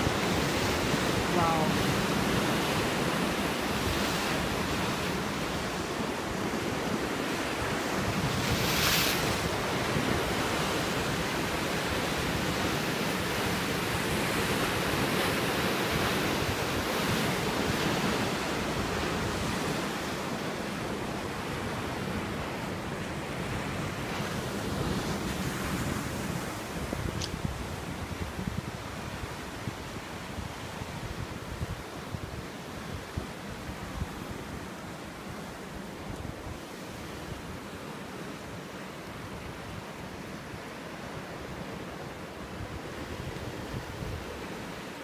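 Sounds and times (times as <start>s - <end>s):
surf crashing on rocky shore: 0.0s - 45.0s.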